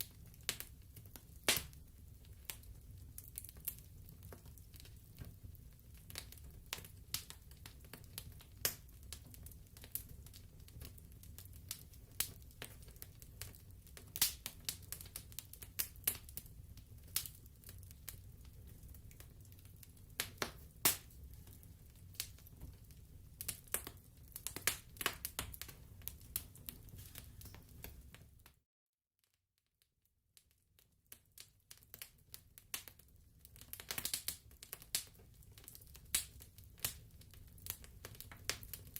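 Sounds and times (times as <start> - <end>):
wood fire crackling and popping: 0.0 - 28.6, 30.4 - 38.9.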